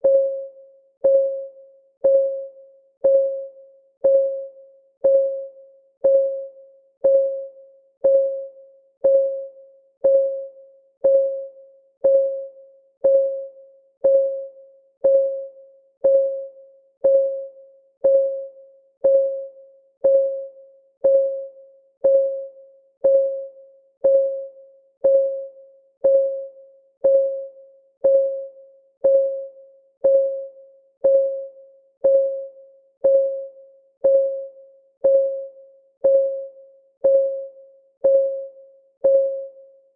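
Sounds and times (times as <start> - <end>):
timer clock ticking: 5.0 - 39.5.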